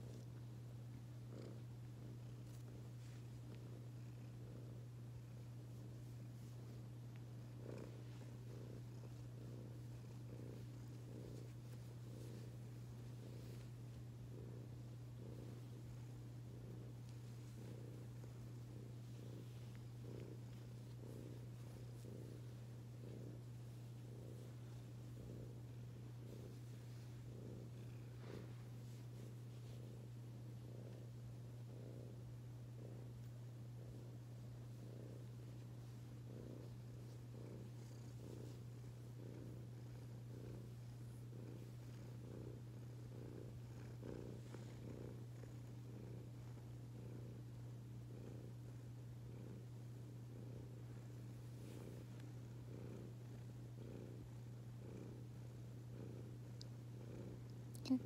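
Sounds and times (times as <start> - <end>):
cat purring: 0.0 - 58.0
steady low hum: 0.0 - 58.0.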